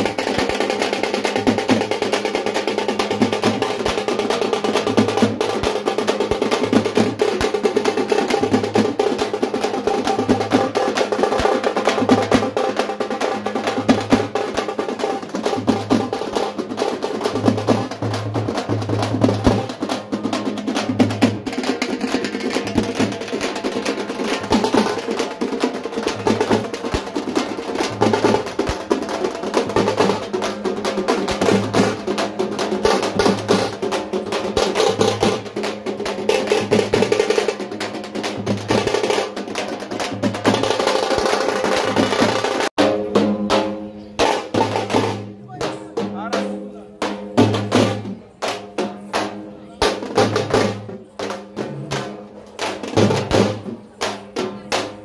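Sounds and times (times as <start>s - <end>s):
fast dense drumming: 0.0s - 46.4s.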